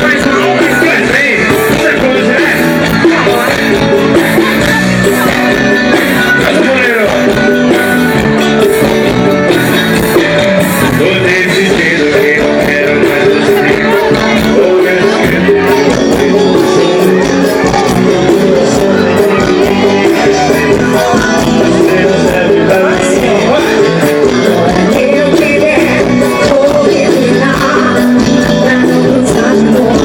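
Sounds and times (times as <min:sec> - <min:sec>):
live band playing loudly: 0:00.0 - 0:30.0.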